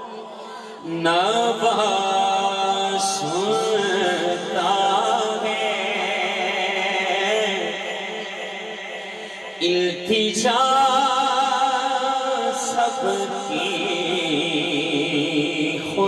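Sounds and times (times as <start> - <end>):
sustained vocal drone: 0.0 - 16.0.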